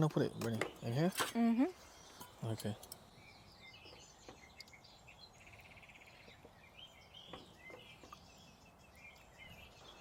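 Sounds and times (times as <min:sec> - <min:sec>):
birds chirping: 0:00.0 - 0:10.0
bird trill: 0:01.8 - 0:10.0.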